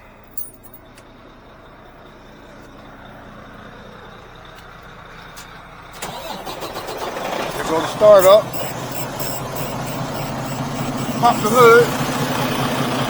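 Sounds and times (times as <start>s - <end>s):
heavy trucks idling: 0.0s - 13.0s.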